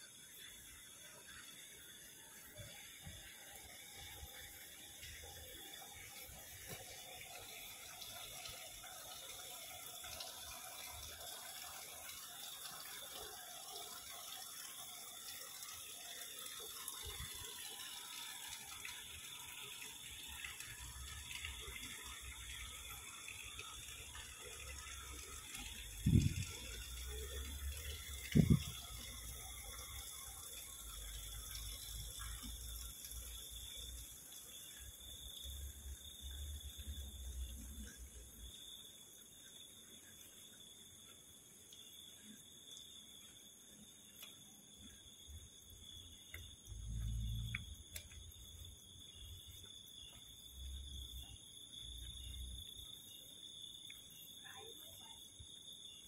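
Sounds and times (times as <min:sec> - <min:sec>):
water running in canal: 0:00.0 - 0:56.0.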